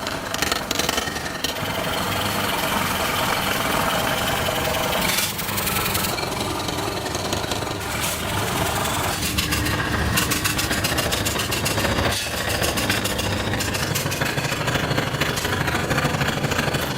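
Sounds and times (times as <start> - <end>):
forging machinery running: 0.0 - 16.9.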